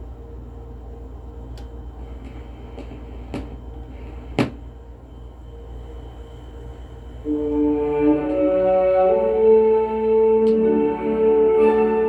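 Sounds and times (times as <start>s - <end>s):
record surface noise and hum: 0.0s - 12.0s.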